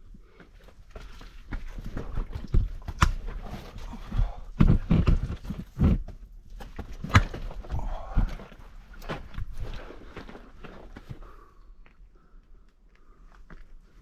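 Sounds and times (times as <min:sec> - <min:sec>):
footsteps scrambling over rock: 0:00.3 - 0:12.0.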